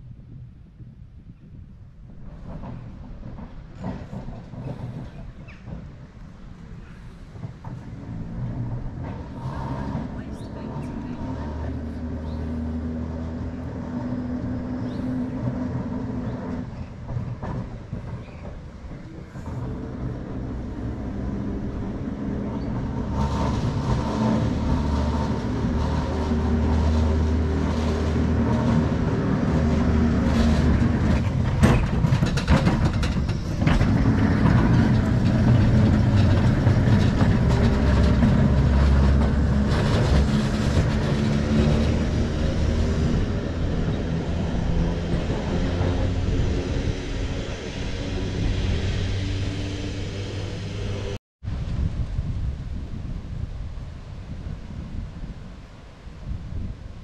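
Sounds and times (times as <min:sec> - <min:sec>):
tram rumble: 0:00.0 - 0:57.0
wheels clicking on rails: 0:01.5 - 0:51.2.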